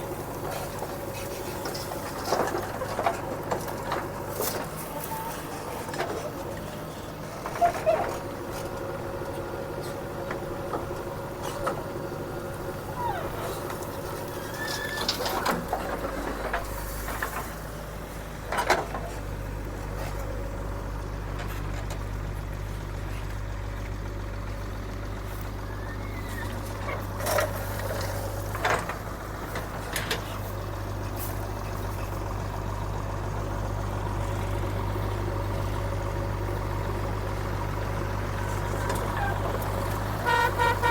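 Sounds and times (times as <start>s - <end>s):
deeper engine hum: 0.0s - 40.9s
diesel engines running: 0.0s - 40.9s.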